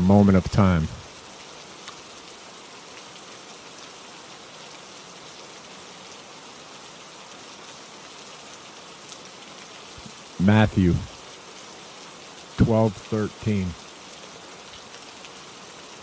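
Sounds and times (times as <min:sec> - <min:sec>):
faint raindrops: 0:00.0 - 0:16.0
steady rainfall: 0:00.0 - 0:16.0.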